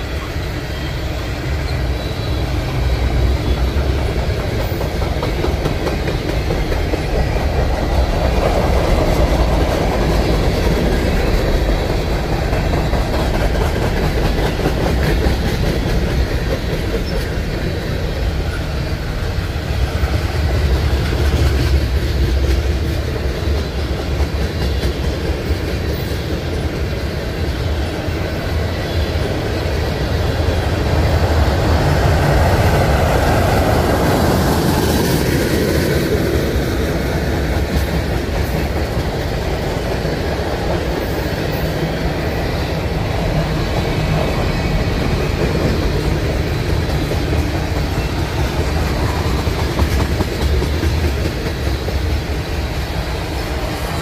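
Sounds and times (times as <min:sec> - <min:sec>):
freight train wheels rumbling on rails: 0:00.0 - 0:54.0.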